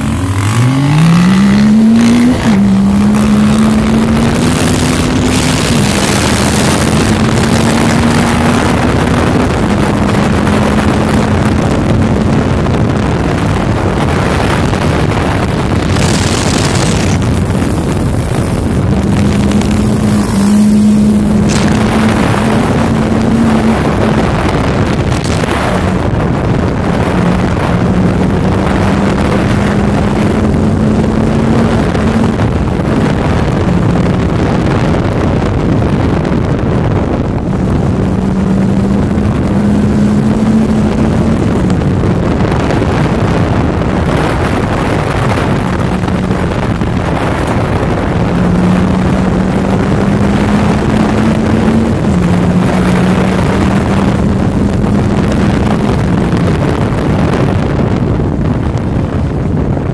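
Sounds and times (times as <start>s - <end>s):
engine revving under acceleration: 0.0s - 57.7s
wind rushing over microphone: 0.0s - 59.9s.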